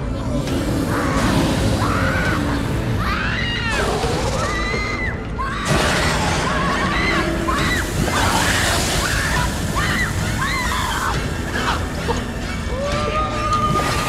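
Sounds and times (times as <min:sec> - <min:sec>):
horror music: 0:00.0 - 0:14.0
high wailing cries: 0:00.9 - 0:14.0.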